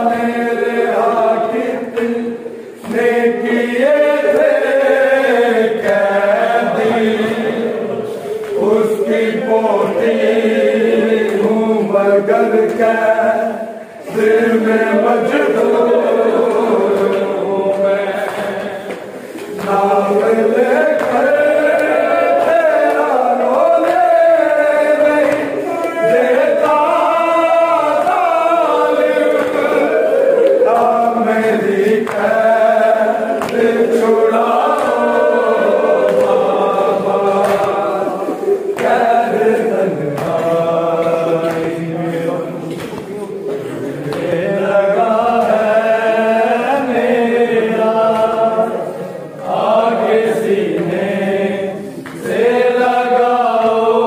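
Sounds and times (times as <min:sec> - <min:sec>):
group chanting a lament: 0:00.0 - 0:54.0.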